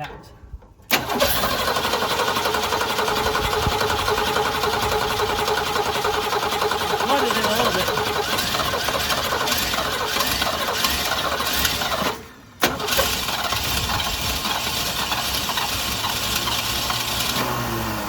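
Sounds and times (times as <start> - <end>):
car engine starter cranking: 0.9 - 17.7.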